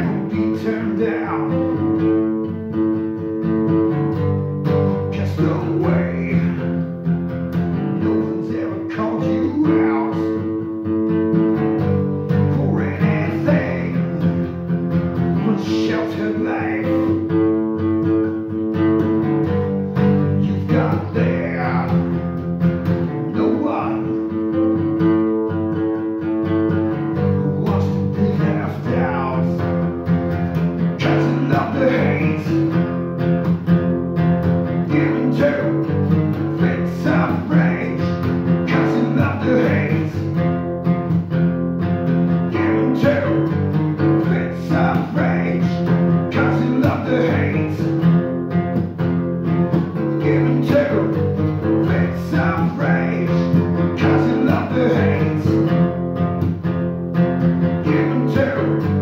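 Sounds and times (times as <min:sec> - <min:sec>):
acoustic guitar picked chords: 0:00.0 - 0:59.0.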